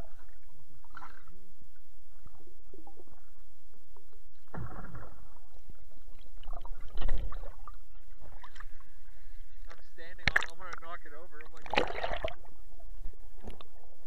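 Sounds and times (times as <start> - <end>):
muffled gurgling swishes: 0.0 - 14.0
underwater low rumble: 0.0 - 14.0.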